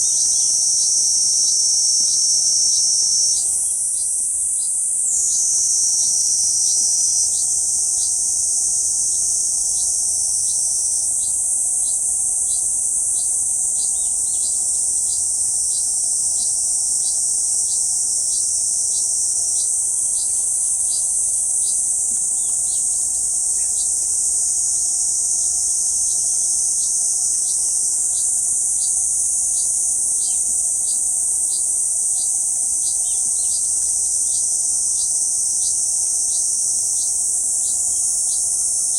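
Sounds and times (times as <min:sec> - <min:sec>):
cicada buzzing: 0:00.0 - 0:38.9.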